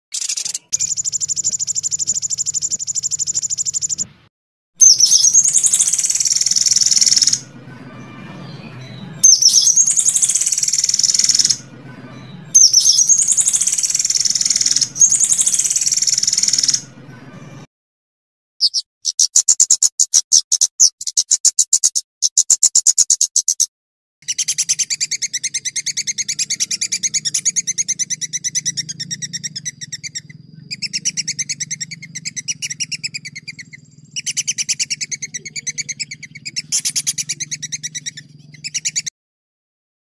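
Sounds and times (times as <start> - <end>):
songbird trilling: 0.2 - 4.1, 4.8 - 17.0, 18.6 - 39.1.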